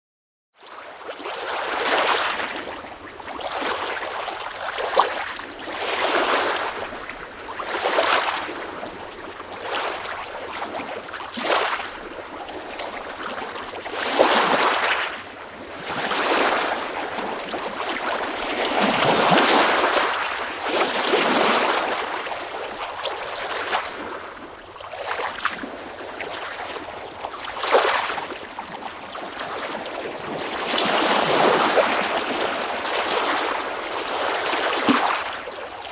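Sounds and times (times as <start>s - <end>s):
water waves lapping: 0.7s - 35.9s.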